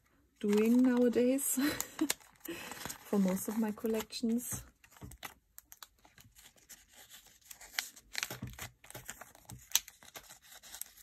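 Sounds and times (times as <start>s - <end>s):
plastic pages crinkling and rustling: 0.0s - 11.0s.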